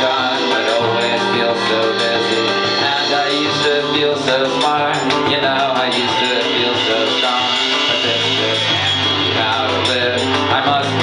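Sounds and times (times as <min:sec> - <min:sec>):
drums: 0:00.0 - 0:11.0
electric bass: 0:00.0 - 0:11.0
person singing: 0:00.0 - 0:11.0
strummed acoustic guitar: 0:00.0 - 0:11.0.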